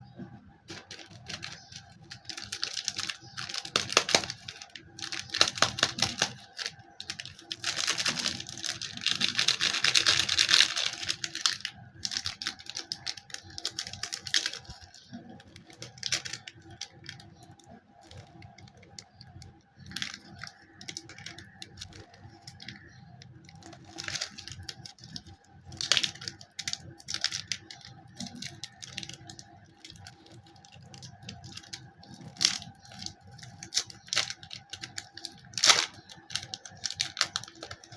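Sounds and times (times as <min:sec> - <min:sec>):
crackly clicks: 0:00.7 - 0:37.9
plastic wrappers crinkling: 0:00.7 - 0:37.9.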